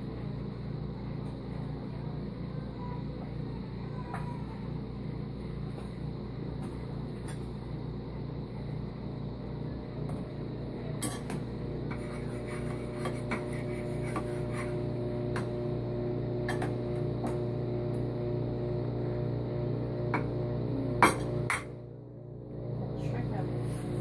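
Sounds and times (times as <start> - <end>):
appliance hum: 0.0 - 24.0.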